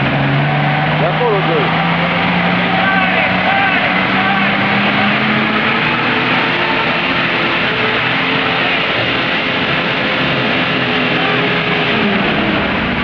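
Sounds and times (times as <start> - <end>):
car engine under heavy load: 0.0 - 13.0.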